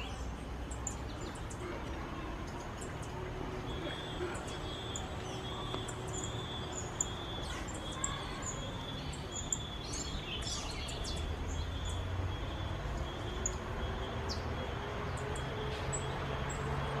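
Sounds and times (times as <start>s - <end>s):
birds chirping: 0.0s - 17.0s
outdoor background noise: 0.0s - 17.0s.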